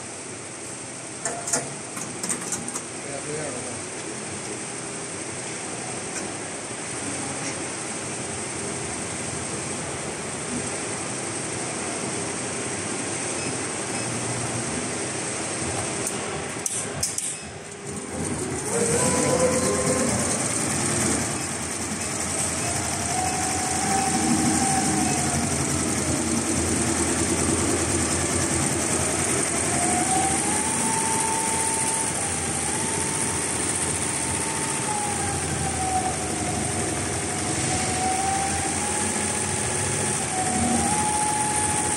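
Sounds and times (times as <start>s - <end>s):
machine whine: 0.0s - 41.9s.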